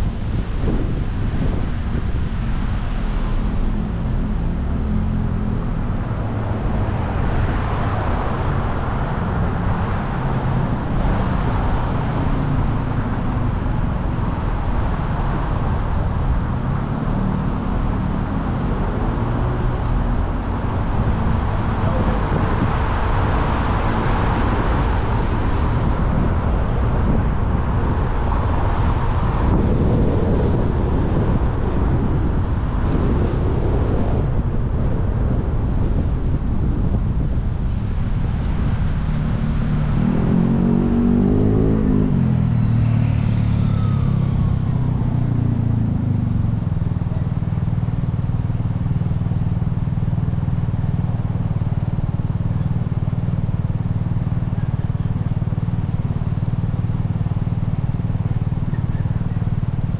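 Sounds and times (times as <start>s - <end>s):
low engine hum: 0.0s - 59.9s
road and traffic noise: 0.0s - 59.9s.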